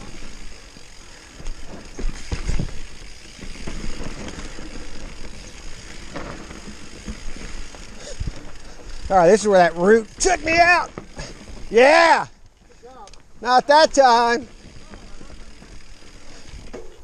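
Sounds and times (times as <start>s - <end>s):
bike knocking over bumps: 0.0s - 12.2s, 13.9s - 17.0s
bike tyre and chain rattle: 0.0s - 17.0s.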